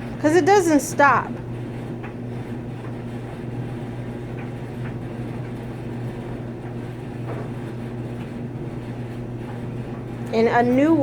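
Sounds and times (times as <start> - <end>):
clothes dryer humming: 0.0 - 11.0.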